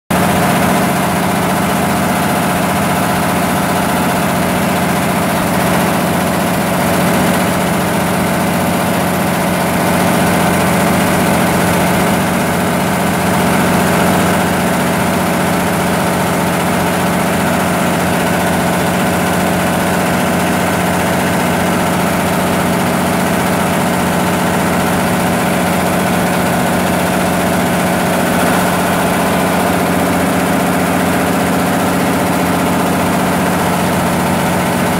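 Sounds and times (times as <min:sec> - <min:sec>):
diesel generator running: 0:00.1 - 0:34.9.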